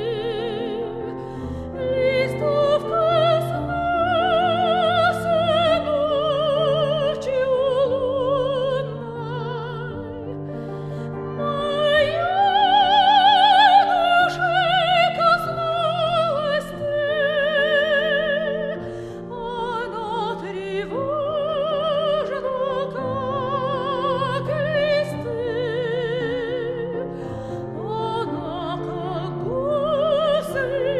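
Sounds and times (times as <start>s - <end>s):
piano accompaniment: 0.0s - 30.9s
soprano singing with vibrato: 0.0s - 30.9s.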